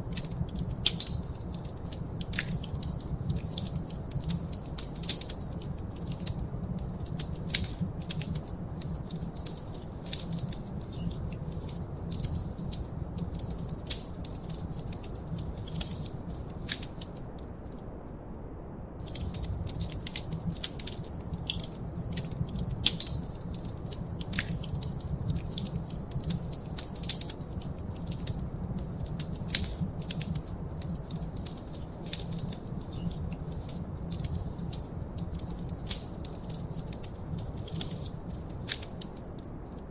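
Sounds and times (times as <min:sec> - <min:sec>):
wood fire crackling: 0:00.0 - 0:18.0, 0:19.0 - 0:39.9
sharp pops and snaps: 0:00.0 - 0:18.4, 0:19.0 - 0:39.9
low rumble of burning logs: 0:00.0 - 0:39.9.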